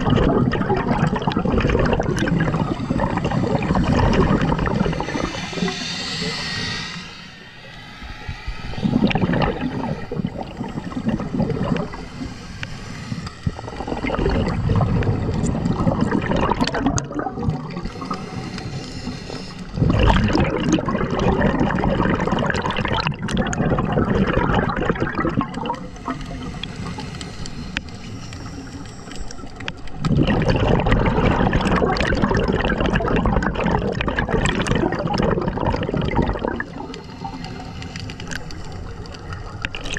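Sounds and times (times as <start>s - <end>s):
exhaled bubbles rushing underwater: 0.0s - 39.9s.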